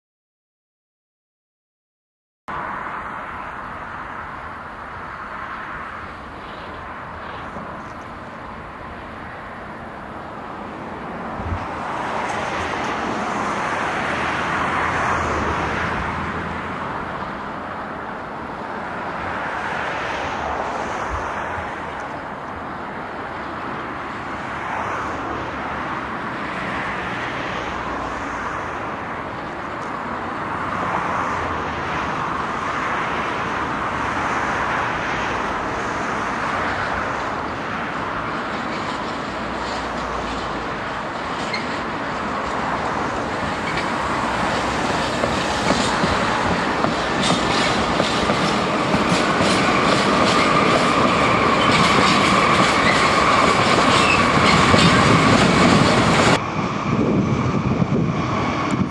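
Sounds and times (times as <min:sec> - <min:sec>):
freight train rolling: 0:03.5 - 0:58.9.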